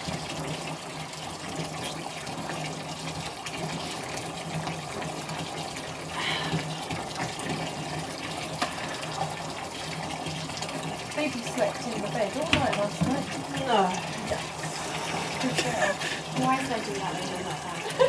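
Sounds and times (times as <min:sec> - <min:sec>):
water running from tap: 0:00.0 - 0:18.0.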